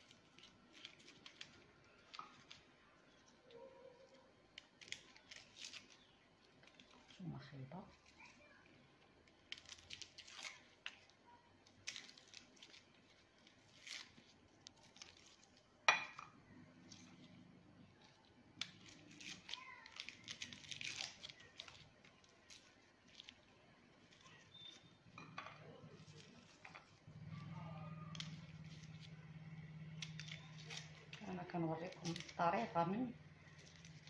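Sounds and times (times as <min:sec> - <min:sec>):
garlic skins crackling: 0:00.0 - 0:34.0.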